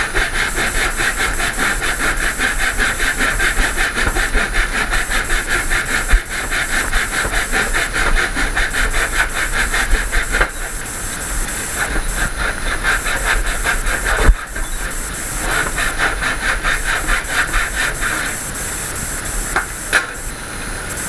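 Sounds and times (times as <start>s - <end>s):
woodworking tool rasping on wood: 0.0s - 20.2s.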